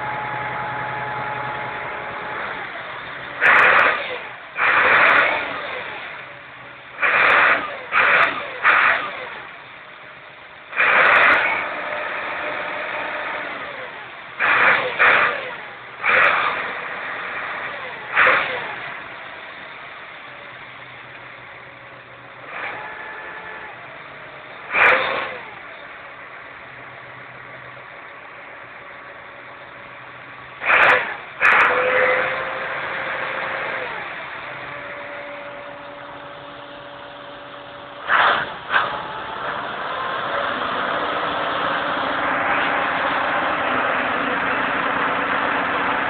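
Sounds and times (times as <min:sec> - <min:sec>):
tractor diesel engine revving: 0:00.0 - 0:46.0.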